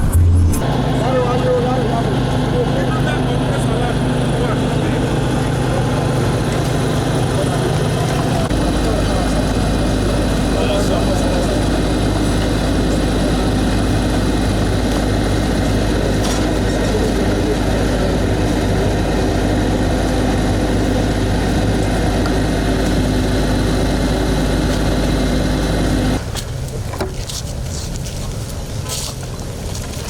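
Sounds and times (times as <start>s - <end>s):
large engine droning: 0.0s - 30.0s.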